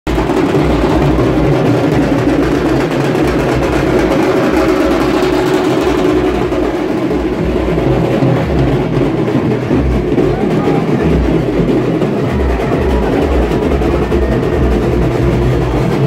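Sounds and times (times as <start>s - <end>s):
street drummers pounding drums: 0.1s - 16.0s.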